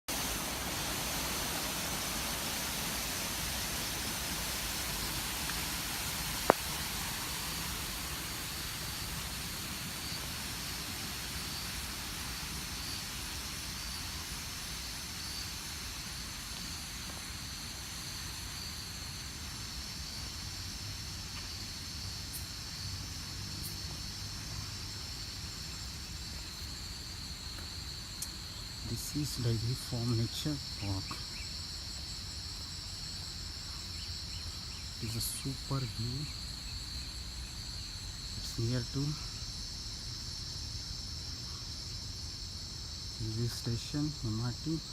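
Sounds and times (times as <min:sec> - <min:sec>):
low rumbling hiss: 0:00.0 - 0:44.9
insects chorus: 0:00.1 - 0:44.9.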